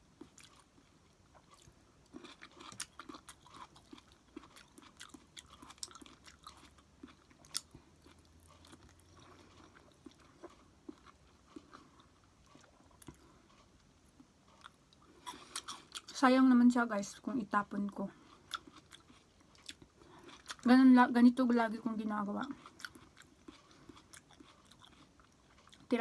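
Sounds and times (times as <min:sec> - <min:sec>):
person chewing food: 0:00.0 - 0:16.2, 0:18.1 - 0:20.7, 0:22.4 - 0:25.9.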